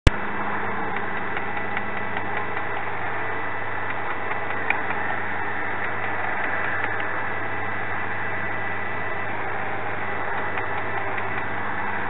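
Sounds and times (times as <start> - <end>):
distant road traffic rumble: 0.1 - 12.0
faint flock of birds calling: 0.2 - 12.0.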